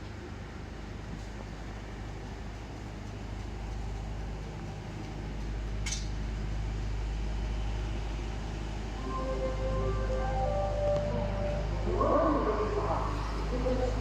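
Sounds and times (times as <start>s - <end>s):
train rumble and hum: 0.0s - 14.0s.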